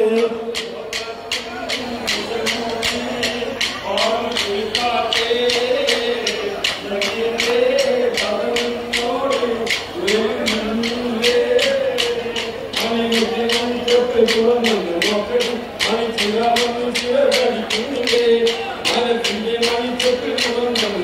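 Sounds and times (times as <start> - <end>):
person singing wavering melody: 0.0 - 21.0
hands clapping rhythmically: 0.1 - 21.0.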